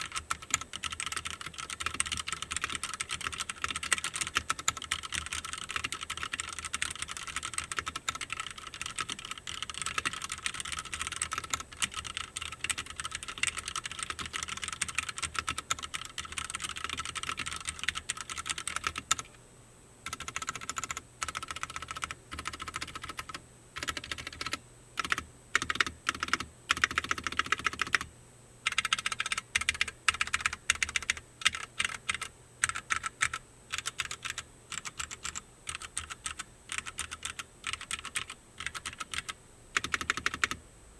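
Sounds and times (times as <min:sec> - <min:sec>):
mechanical keyboard typing: 0:00.0 - 0:19.3, 0:20.1 - 0:28.1, 0:28.7 - 0:40.6.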